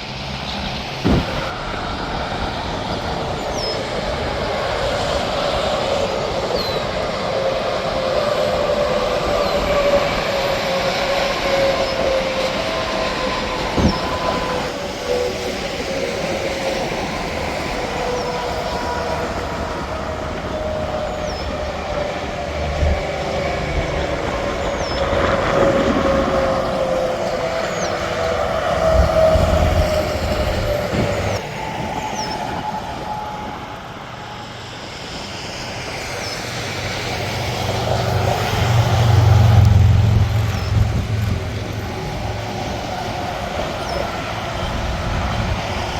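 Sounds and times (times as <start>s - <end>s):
highway traffic: 0.0s - 45.9s
trucks passing at speed: 0.0s - 45.9s.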